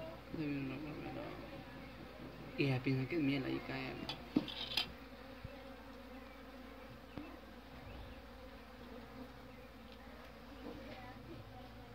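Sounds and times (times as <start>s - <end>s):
bees buzzing: 0.0s - 11.9s.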